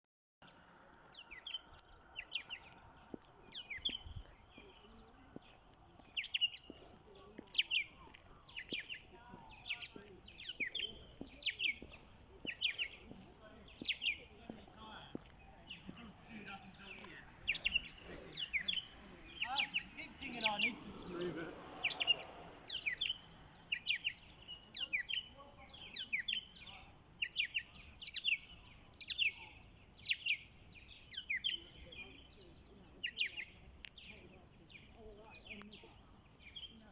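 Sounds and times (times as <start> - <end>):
small songbirds chirping: 0.4 - 36.9.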